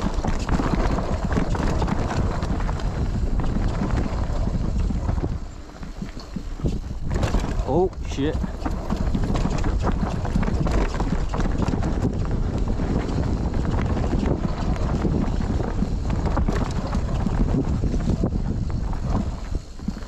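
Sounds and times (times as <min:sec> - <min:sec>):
mountain bike rattling: 0:00.0 - 0:20.0
wind buffeting microphone: 0:00.0 - 0:20.0.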